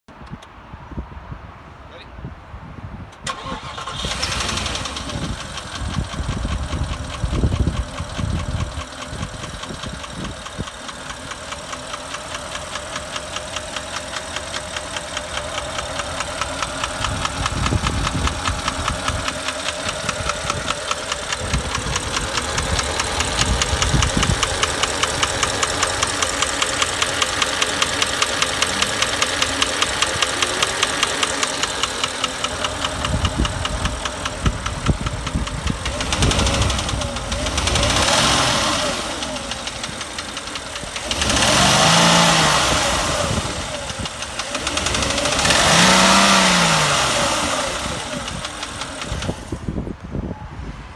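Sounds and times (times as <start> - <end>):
car engine starting: 3.2 - 50.0
engine idling with knock: 4.4 - 49.7.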